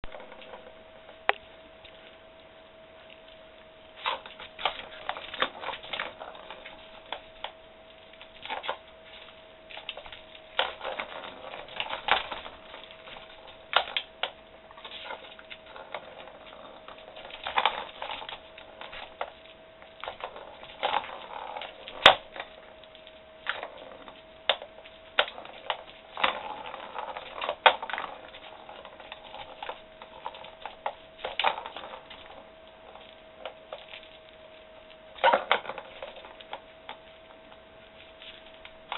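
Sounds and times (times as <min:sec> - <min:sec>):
faint hum: 0:00.0 - 0:38.9.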